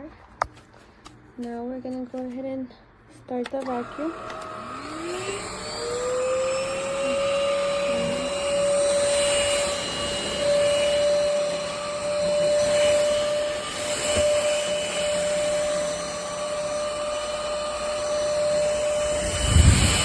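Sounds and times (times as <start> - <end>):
vacuum motor whine: 3.6 - 20.0.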